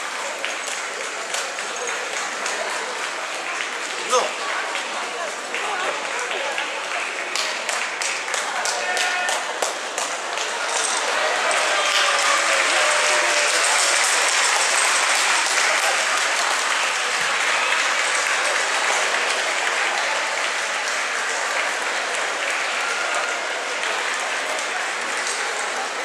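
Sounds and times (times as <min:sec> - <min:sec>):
crowd applauding: 0:00.0 - 0:26.0.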